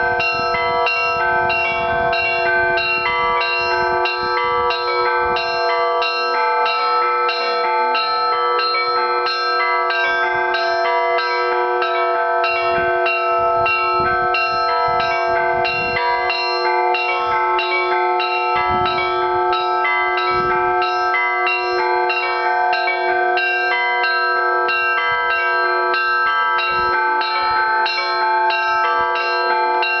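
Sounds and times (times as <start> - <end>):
large church bells ringing: 0.0 - 30.0
small church bells struck fast: 0.0 - 30.0.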